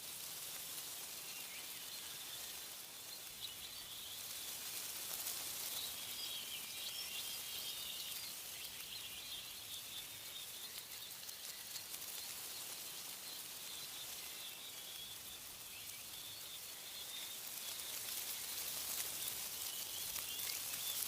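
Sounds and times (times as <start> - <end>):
small birds chirping: 0.0 - 21.0
wind rustling tree leaves: 0.0 - 21.0.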